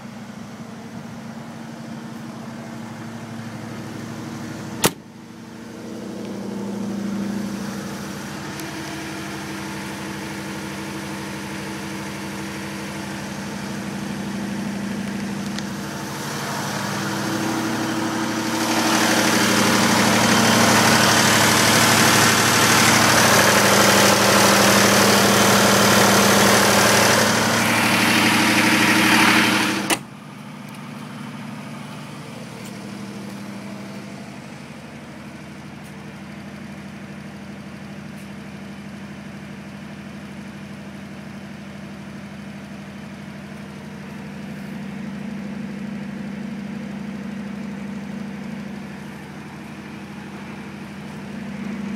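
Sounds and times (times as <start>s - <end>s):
diesel generator running: 0.0s - 51.9s.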